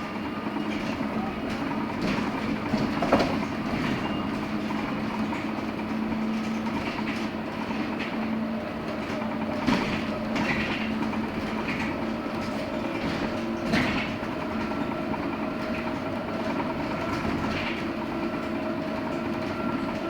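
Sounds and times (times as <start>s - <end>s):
bus body rattling: 0.0s - 20.0s
bus motor hum: 0.0s - 20.0s.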